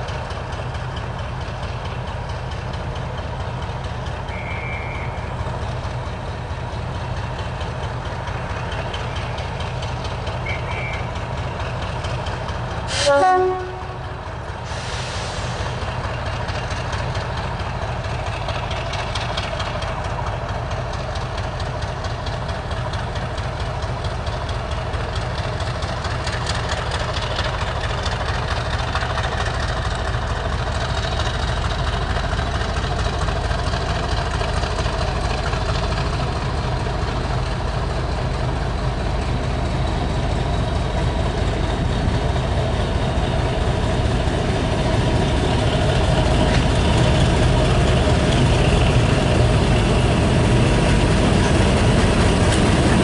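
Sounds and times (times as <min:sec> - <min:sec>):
diesel locomotive engine running: 0:00.0 - 0:53.0.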